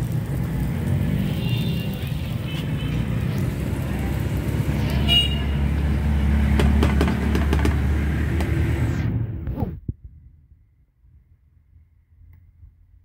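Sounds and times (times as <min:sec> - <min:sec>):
vehicle passing with low rumble: 0:00.0 - 0:13.0.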